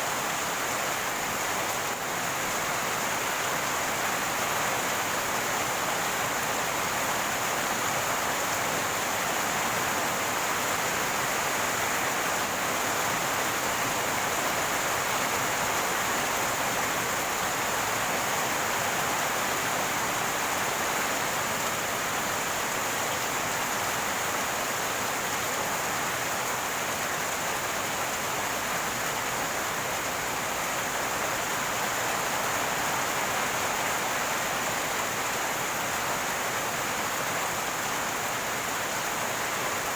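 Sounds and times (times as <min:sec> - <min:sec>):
rainwater running and gurgling: 0:00.0 - 0:39.9.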